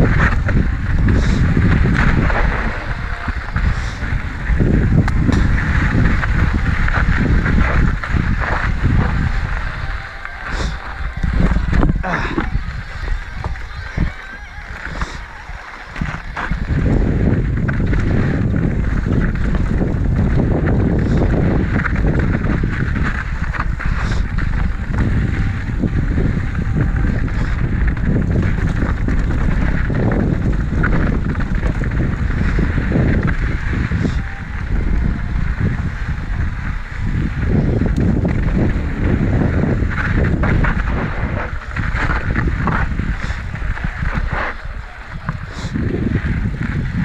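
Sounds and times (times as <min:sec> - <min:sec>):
bike rattling over rough ground: 0:00.0 - 0:47.0
wind on microphone: 0:00.0 - 0:47.0.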